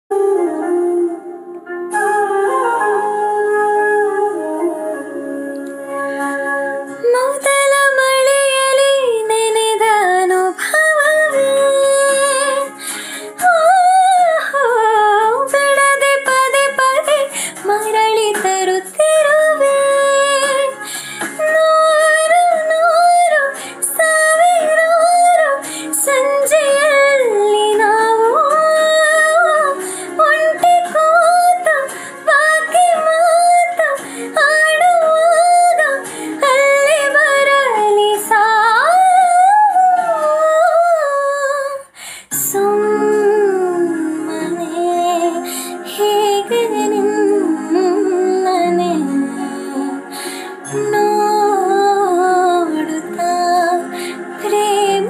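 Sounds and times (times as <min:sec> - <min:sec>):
woman singing slow melody: 0:00.1 - 0:55.0.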